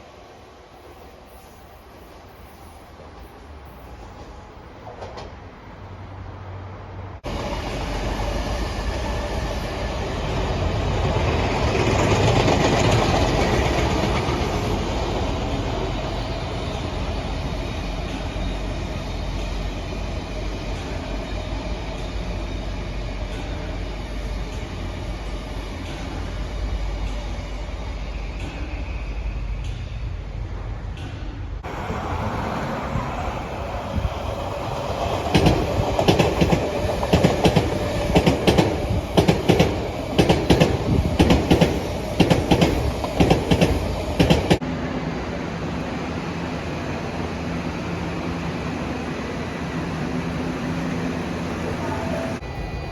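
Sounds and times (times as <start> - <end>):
electric train passing: 0.0 - 52.9.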